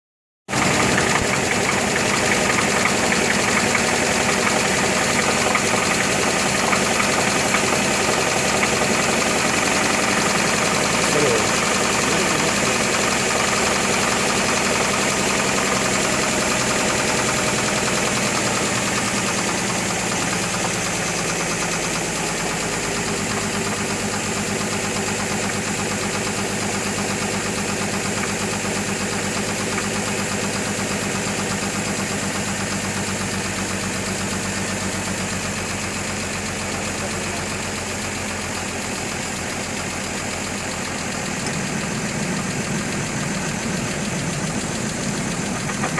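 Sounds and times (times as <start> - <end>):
car engine idling with knocking: 0.5 - 45.9.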